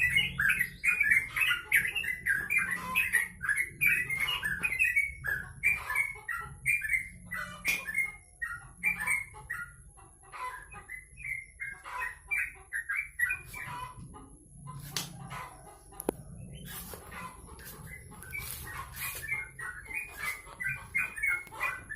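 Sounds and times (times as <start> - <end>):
songbird chirping: 0.0 - 21.9.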